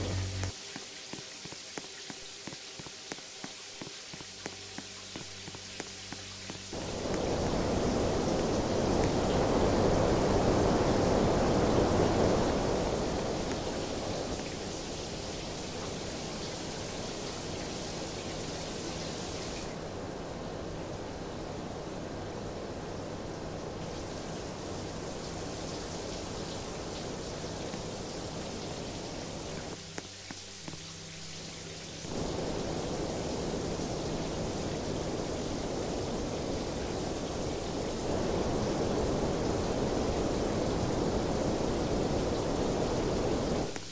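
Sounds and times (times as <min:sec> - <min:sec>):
fan airflow whooshing: 0:00.0 - 0:00.6, 0:04.4 - 0:29.9, 0:32.0 - 0:43.9
faint low electrical hum: 0:00.0 - 0:43.9.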